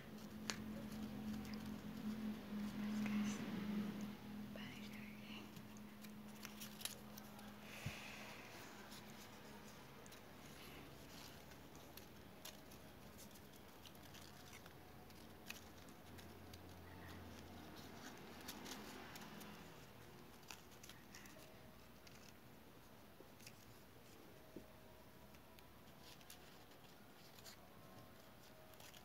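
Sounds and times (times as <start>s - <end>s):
paper strips crackling: 0.0s - 29.0s.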